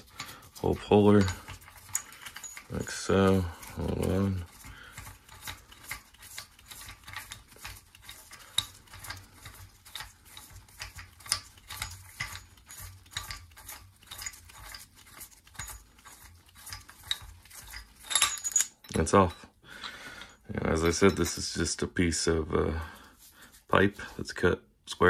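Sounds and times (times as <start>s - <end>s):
metallic clicks and scraping: 0.0s - 21.6s.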